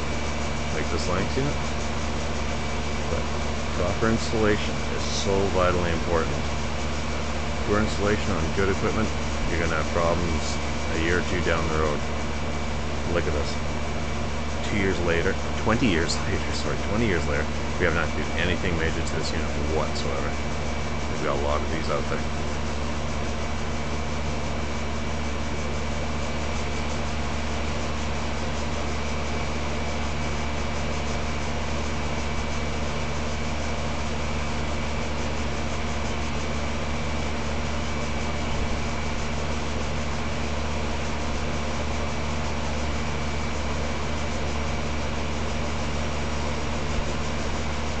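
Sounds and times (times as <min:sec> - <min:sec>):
compressor humming: 0:00.0 - 0:48.0
condenser fan rushing: 0:00.0 - 0:48.0.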